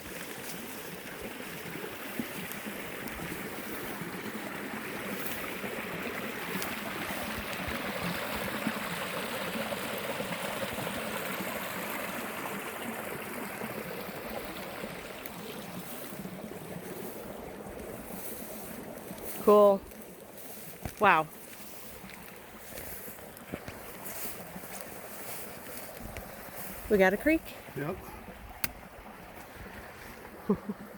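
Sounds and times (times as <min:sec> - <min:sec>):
creek water rushing: 0:00.0 - 0:30.9.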